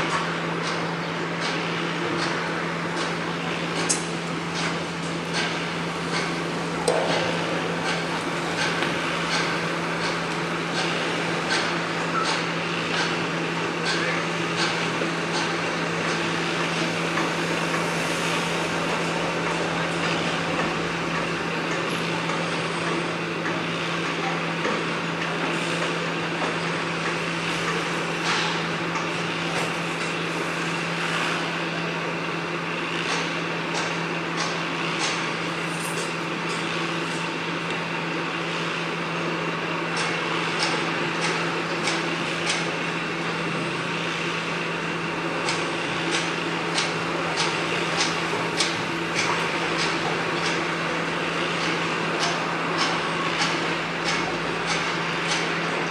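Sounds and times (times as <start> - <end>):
low machine drone: 0.0 - 55.9.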